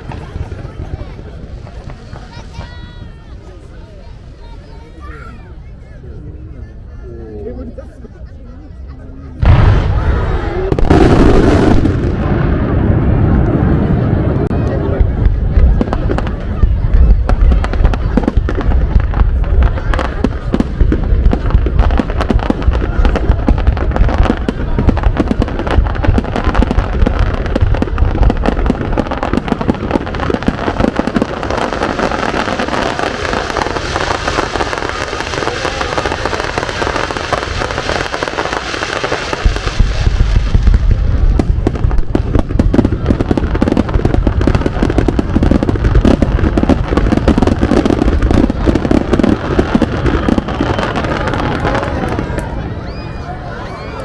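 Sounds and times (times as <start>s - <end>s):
fireworks booming: 0.0s - 4.7s, 9.2s - 54.0s
fireworks crackling: 0.0s - 6.2s, 8.8s - 54.0s.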